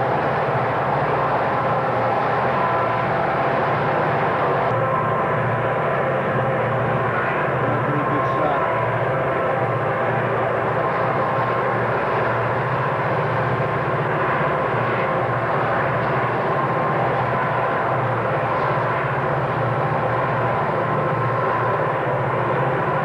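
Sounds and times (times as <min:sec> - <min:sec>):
distant freight train drone: 0:00.0 - 0:23.0.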